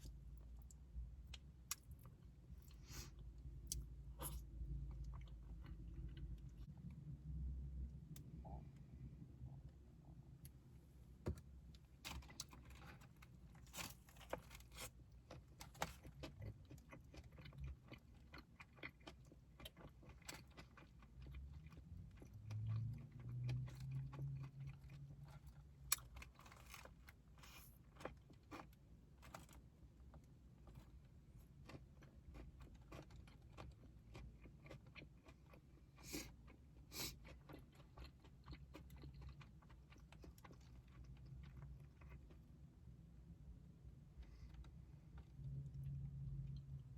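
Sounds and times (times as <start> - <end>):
chewing and crunching: 0.0 - 7.0, 12.0 - 42.7.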